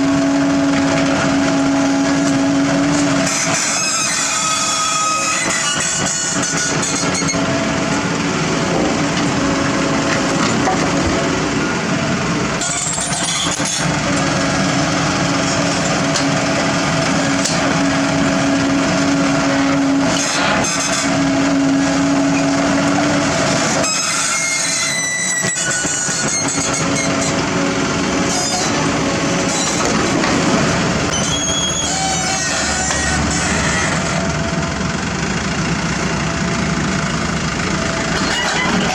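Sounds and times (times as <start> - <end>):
construction machinery engine: 0.0 - 38.9.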